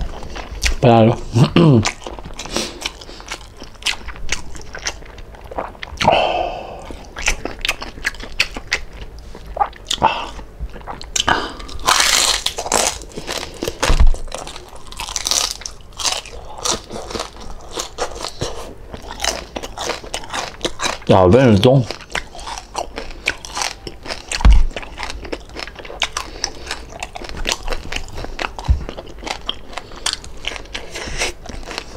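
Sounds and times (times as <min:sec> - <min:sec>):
crunching crispy fried pork: 0:01.6 - 0:31.9.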